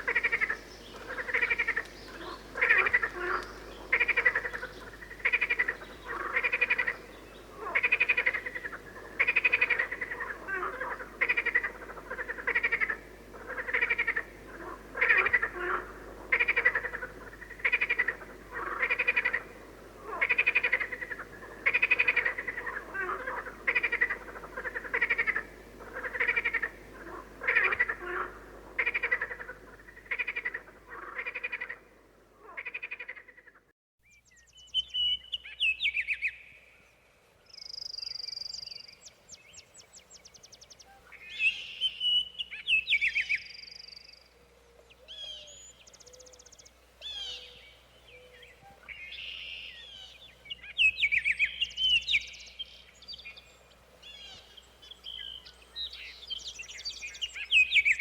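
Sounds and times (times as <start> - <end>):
birds singing: 0.0 - 31.8, 37.5 - 58.0.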